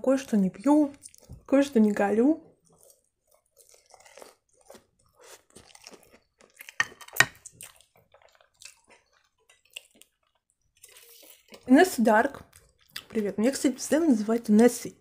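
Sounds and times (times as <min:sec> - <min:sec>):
person chewing with wet clicks: 0:00.2 - 0:14.7.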